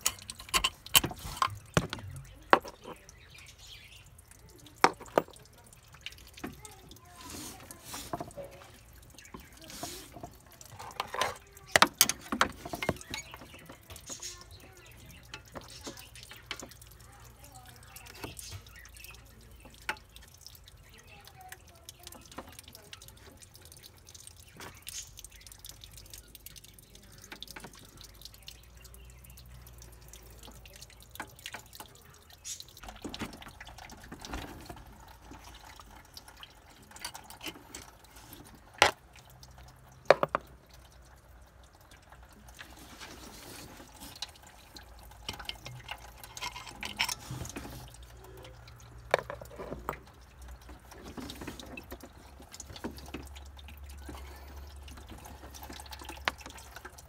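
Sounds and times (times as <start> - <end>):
engine oil dripping: 0.0 - 57.0.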